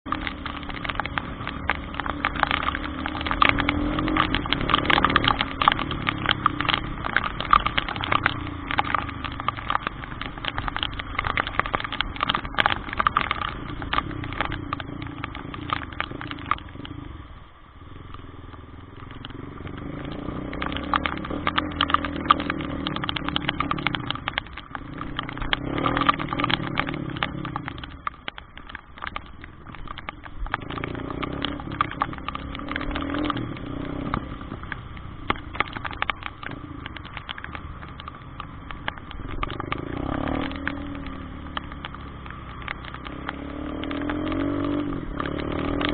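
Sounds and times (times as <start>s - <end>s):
dense patter of clicks: 0.0s - 45.9s
motorcycle engine running: 0.0s - 45.9s.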